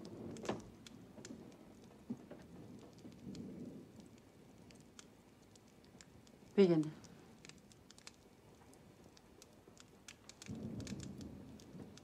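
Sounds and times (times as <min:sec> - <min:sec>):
faint ticks: 0:00.0 - 0:12.0.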